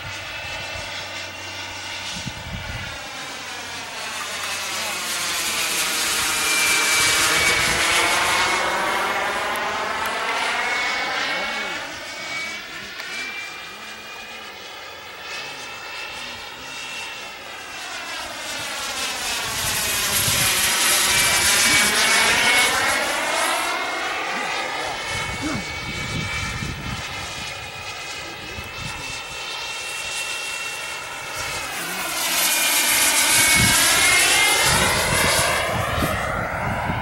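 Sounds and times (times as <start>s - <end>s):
model jet flying past: 0.0s - 37.0s.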